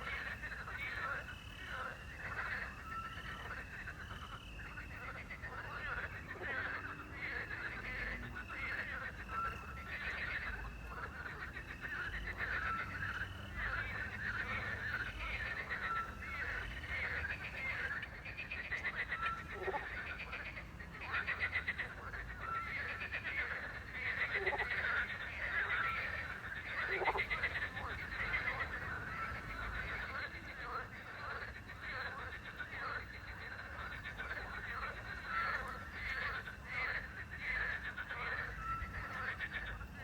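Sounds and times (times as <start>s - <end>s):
frogs croaking chorus: 0.0s - 40.0s.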